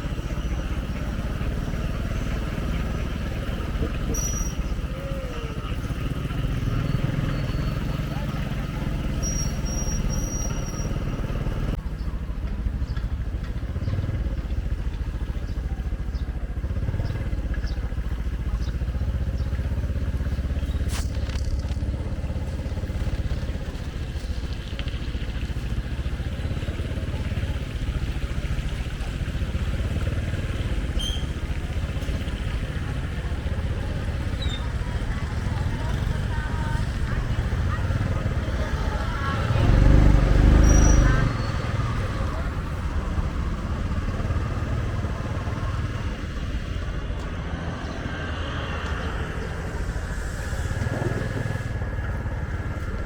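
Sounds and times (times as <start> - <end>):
vehicle motor rumbling: 0.0 - 53.0.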